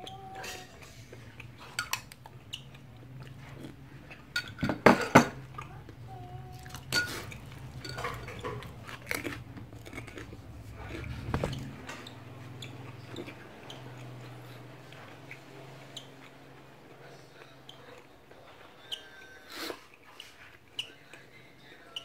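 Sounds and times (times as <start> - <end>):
chewing and smacking: 0.2 - 4.4, 5.4 - 22.0.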